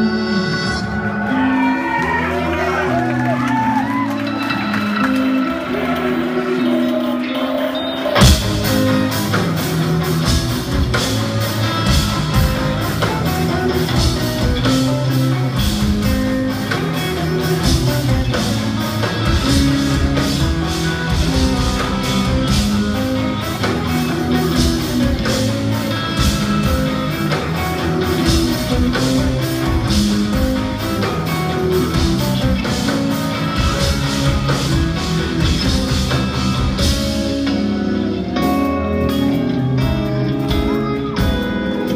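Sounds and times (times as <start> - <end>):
distorted electric guitars: 0.0 - 41.9.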